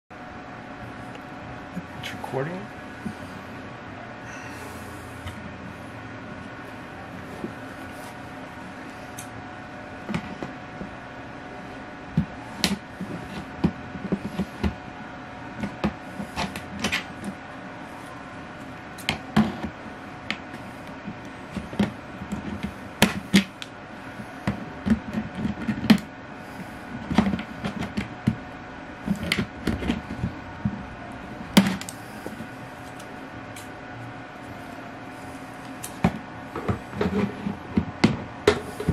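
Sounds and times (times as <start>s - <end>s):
steady hum: 0.1s - 38.9s.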